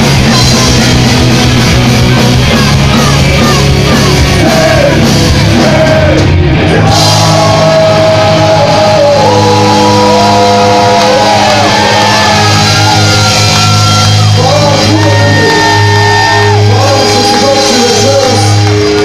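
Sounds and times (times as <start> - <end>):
bass guitar: 0.0 - 19.0
drums: 0.0 - 19.0
electric guitars: 0.0 - 19.0
person shouting lead vocal: 2.1 - 18.4.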